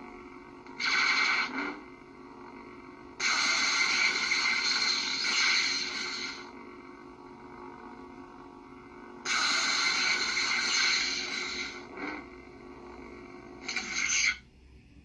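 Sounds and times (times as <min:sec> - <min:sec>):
faint steady electronic hum: 0:00.0 - 0:15.0.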